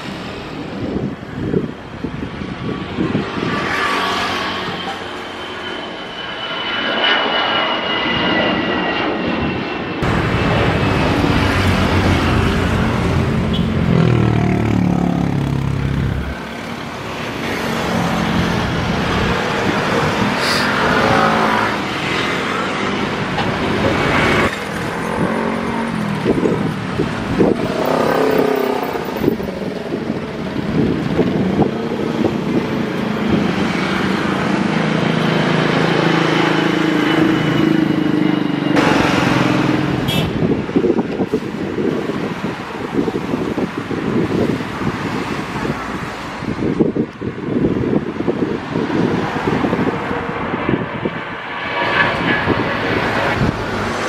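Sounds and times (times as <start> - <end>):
jet engines at takeoff power: 0.0 - 54.0.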